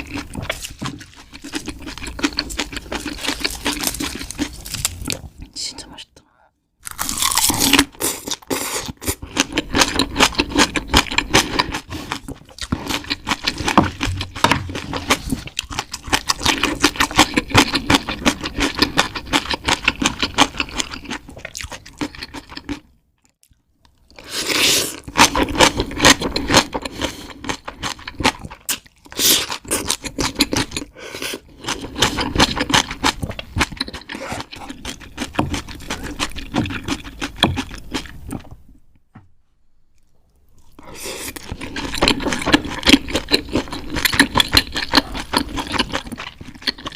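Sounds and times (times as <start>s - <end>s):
chewing crisp food: 0.0s - 5.5s, 6.8s - 38.6s, 39.9s - 46.9s.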